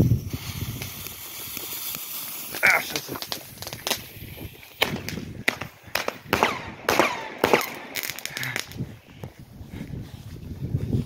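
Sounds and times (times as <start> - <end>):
firecrackers banging: 0.0 - 9.1.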